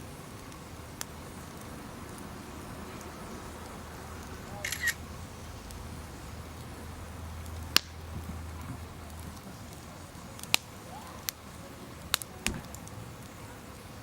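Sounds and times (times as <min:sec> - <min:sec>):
sharp pops of burning wood: 0:00.0 - 0:04.4, 0:05.6 - 0:13.5
campfire crackling: 0:00.0 - 0:14.0.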